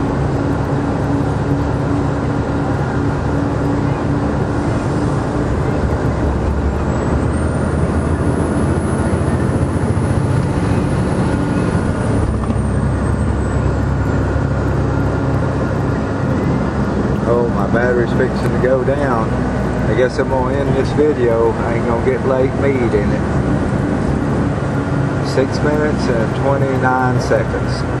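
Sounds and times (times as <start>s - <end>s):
vehicle engine and road rumble: 0.0s - 28.0s.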